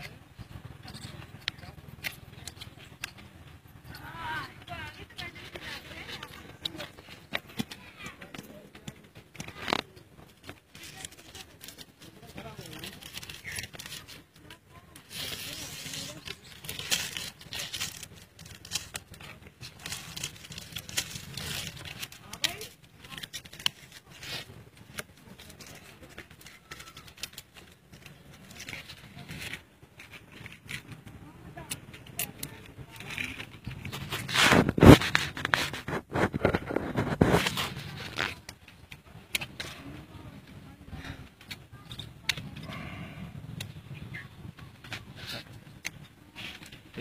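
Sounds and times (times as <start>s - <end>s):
scraping and rubbing: 0.0s - 47.0s
plastic film crinkling: 0.9s - 42.6s.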